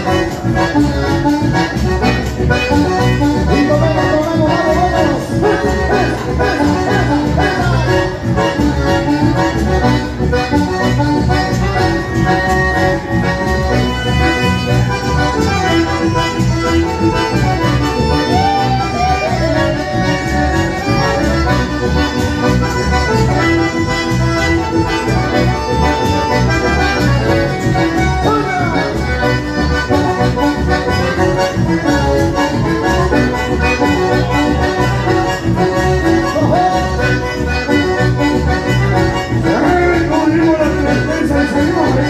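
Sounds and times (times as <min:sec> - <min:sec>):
folk band playing: 0:00.0 - 0:42.0.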